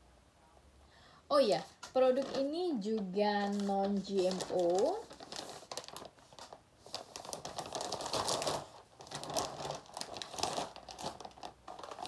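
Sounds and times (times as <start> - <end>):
plastic packaging crinkling: 1.8 - 12.0.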